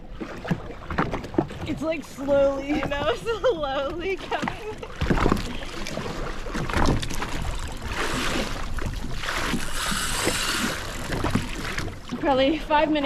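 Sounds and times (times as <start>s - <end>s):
seawater splashing: 0.0s - 13.0s
wind: 0.0s - 13.0s.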